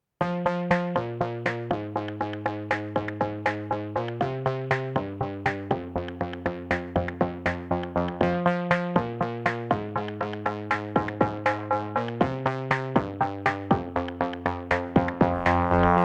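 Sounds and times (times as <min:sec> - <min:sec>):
synthesizer chords: 0:00.2 - 0:16.0
drum-machine beat: 0:00.7 - 0:16.0.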